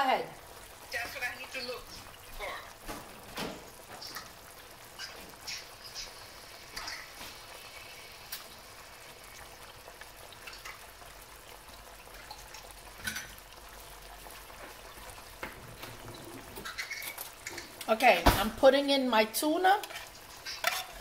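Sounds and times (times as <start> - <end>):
sauce sizzling in a pan: 0.0 - 21.0.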